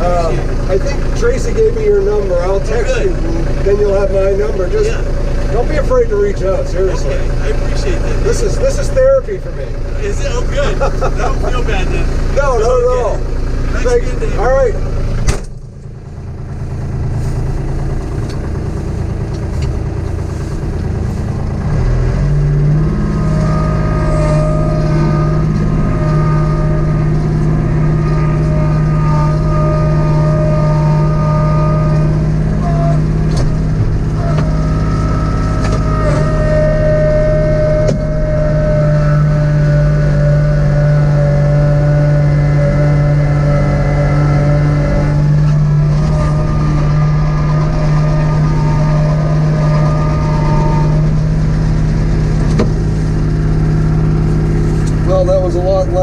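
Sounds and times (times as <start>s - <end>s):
high whine: 0.0s - 56.0s
tractor diesel engine running: 0.0s - 56.0s.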